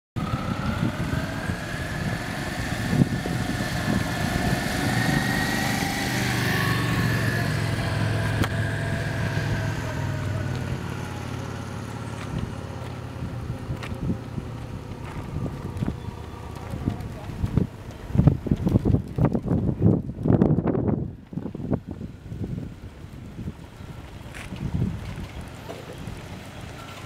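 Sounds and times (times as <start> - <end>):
vehicle engine whine: 0.2 - 27.0.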